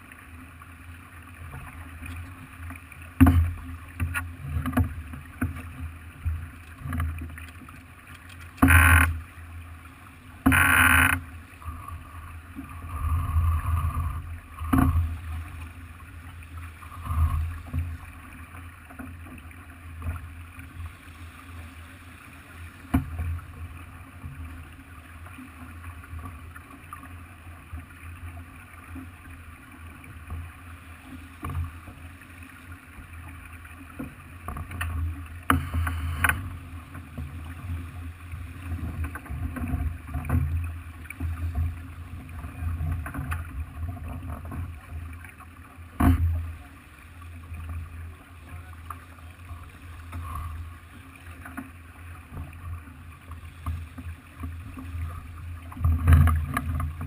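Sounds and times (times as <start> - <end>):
water moving along hull: 0.0 - 57.0.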